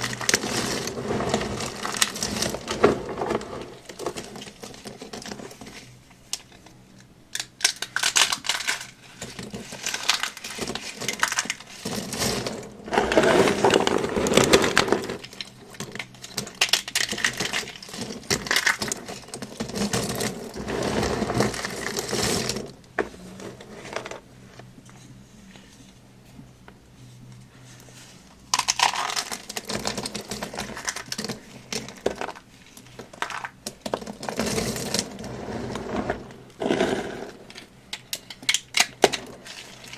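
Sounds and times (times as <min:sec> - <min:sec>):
dry soap crunching: 0:00.0 - 0:24.2, 0:28.4 - 0:39.9.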